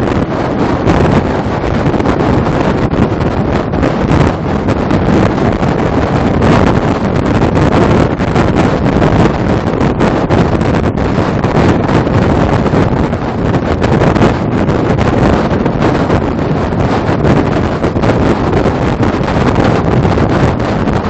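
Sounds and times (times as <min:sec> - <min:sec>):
truck rumbling on road: 0:00.0 - 0:21.0
wind buffeting microphone: 0:00.0 - 0:21.0.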